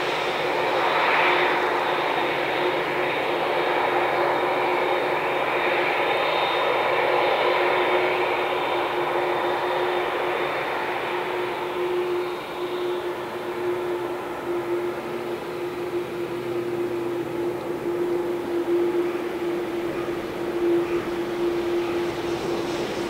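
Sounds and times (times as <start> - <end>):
jet engines taxiing: 0.0 - 23.0.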